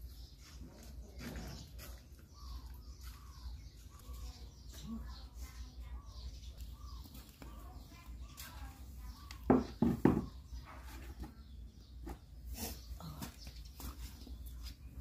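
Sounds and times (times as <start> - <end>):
bird-like chirping calls: 1.2 - 14.7.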